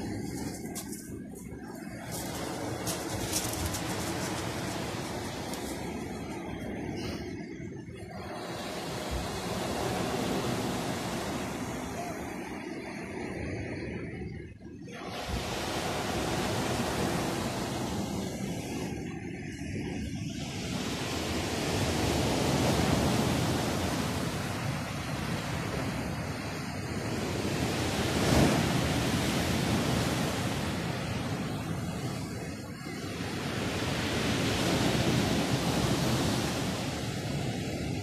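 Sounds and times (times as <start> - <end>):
sea surf breaking on shore: 0.0 - 38.0.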